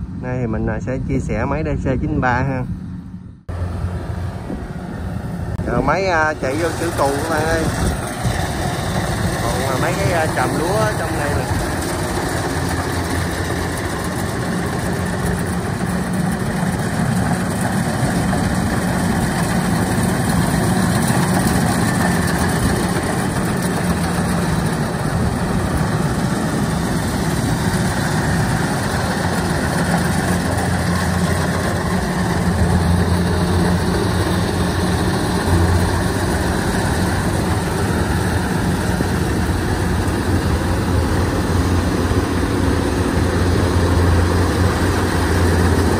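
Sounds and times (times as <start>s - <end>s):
diesel engine drone: 0.0s - 45.9s
threshing machinery noise: 0.0s - 45.9s.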